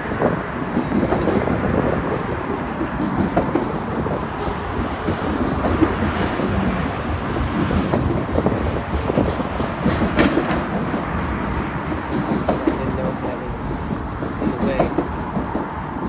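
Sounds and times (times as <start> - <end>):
freight train wheels rumbling: 0.0 - 16.0
train cars clicking and clanking: 0.0 - 16.0.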